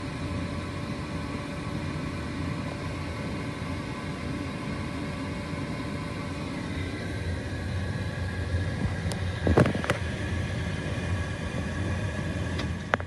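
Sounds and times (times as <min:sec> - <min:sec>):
faint engine whine: 0:00.0 - 0:13.0
vehicle engine humming: 0:00.0 - 0:13.0.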